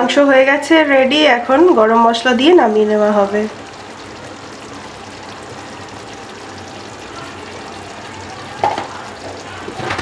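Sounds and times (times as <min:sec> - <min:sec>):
curry simmering and bubbling: 0:01.1 - 0:10.0.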